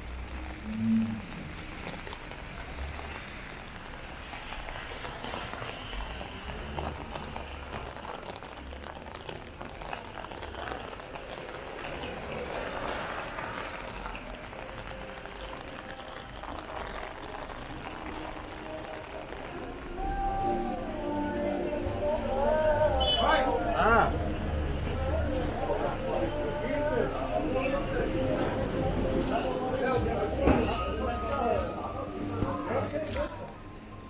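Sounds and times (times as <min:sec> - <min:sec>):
rain falling on a wet street: 0:00.0 - 0:34.0.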